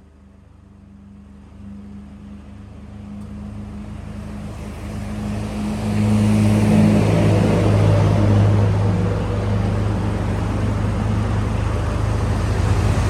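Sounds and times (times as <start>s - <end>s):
vehicle engine humming: 0.1s - 13.0s.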